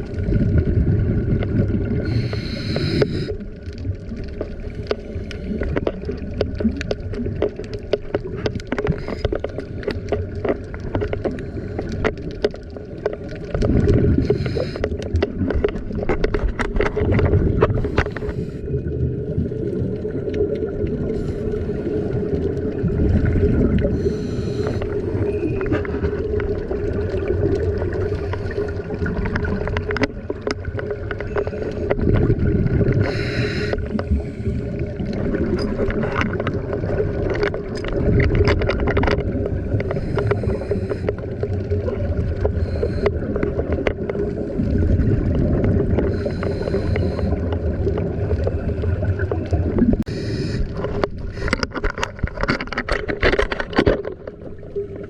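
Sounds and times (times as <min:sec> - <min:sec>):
bubbly regulator exhale: 0:00.0 - 0:07.6, 0:08.3 - 0:16.1, 0:16.9 - 0:52.4.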